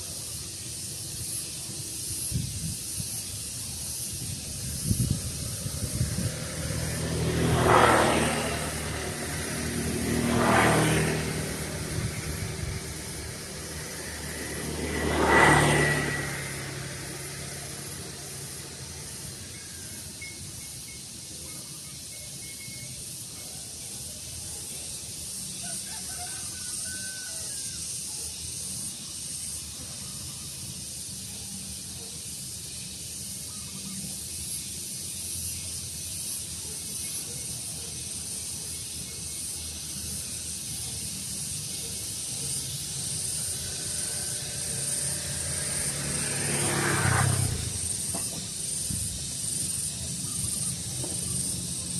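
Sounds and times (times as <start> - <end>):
steady high hiss: 0.0 - 7.2, 16.1 - 51.9.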